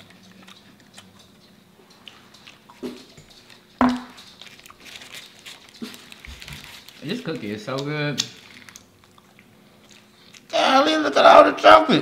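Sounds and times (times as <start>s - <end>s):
biting and chewing: 0.0s - 10.6s.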